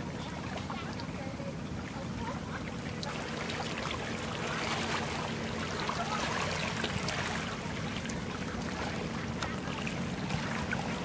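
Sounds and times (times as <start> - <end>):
low engine hum: 0.0 - 11.0
water splashing along hull: 0.0 - 11.0.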